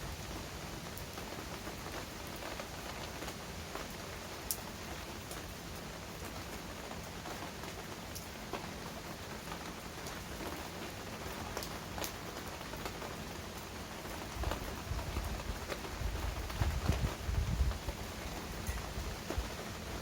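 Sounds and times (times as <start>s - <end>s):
rain on hard surfaces: 0.0s - 20.0s.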